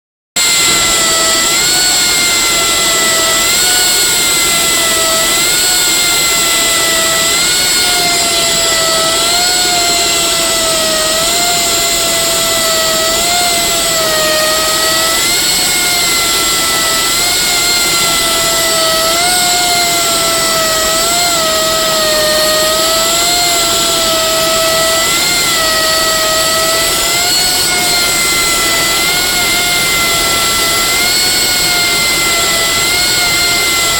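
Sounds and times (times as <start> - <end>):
high machinery whine: 0.4 - 33.9.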